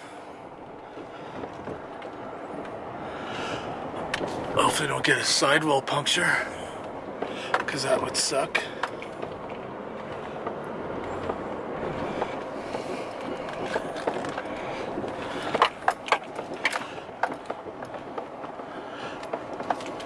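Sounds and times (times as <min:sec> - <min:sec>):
tyres crunching over gravel: 0:00.8 - 0:20.0.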